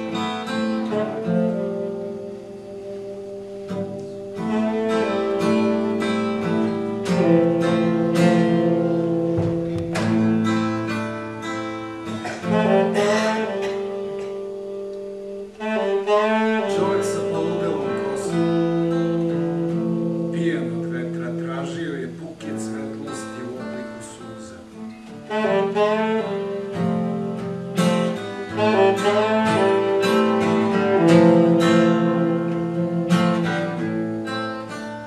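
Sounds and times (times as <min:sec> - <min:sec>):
saxophone with vibrato: 0:00.0 - 0:22.8, 0:25.1 - 0:35.0
plucked guitar notes: 0:00.0 - 0:35.0.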